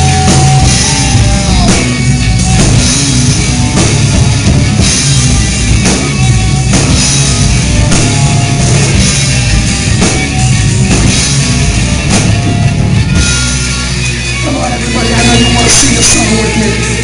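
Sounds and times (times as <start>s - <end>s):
bass guitar: 0.0s - 17.0s
distorted electric guitars: 0.0s - 17.0s
drum kit: 0.0s - 17.0s.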